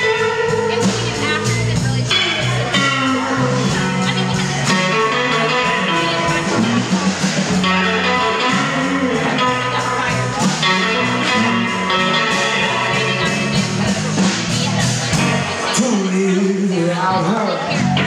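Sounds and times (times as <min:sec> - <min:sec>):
bass guitar: 0:00.0 - 0:18.0
drums: 0:00.0 - 0:18.0
electric guitar lead lines: 0:00.0 - 0:18.0.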